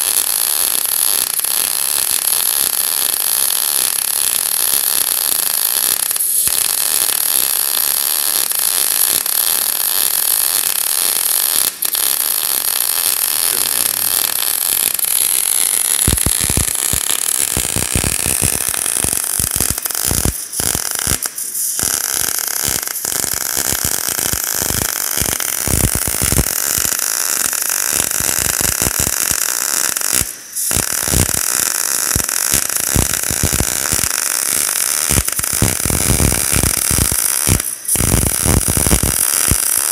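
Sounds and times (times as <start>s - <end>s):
welding arc crackling hiss: 0.0s - 39.9s.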